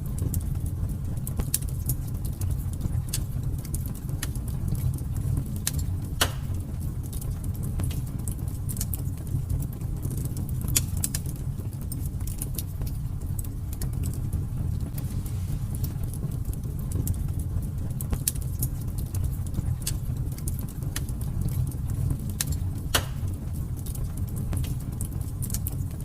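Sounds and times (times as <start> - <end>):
fire burning in fireplace: 0.0 - 26.0
fire crackles and pops: 0.0 - 26.0.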